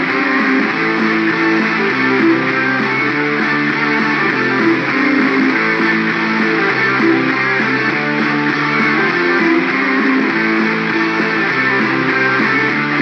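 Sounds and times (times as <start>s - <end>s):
guitar-led instrumental music: 0.0s - 13.0s.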